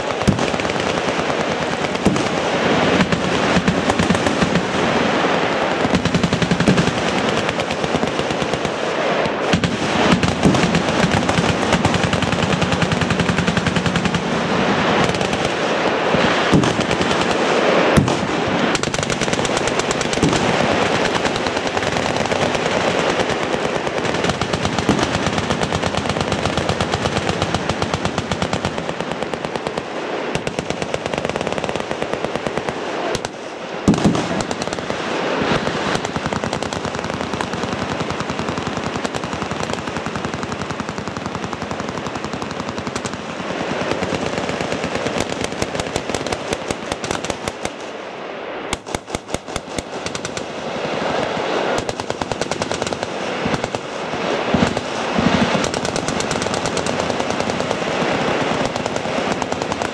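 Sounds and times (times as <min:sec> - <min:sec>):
machine guns firing: 0:00.0 - 0:48.0, 0:48.7 - 0:59.9.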